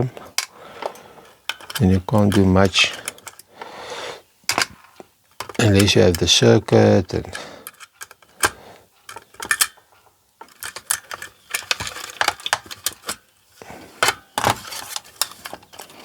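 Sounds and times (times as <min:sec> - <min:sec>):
plastic parts clicking and rattling: 0:00.0 - 0:03.7, 0:04.5 - 0:16.0.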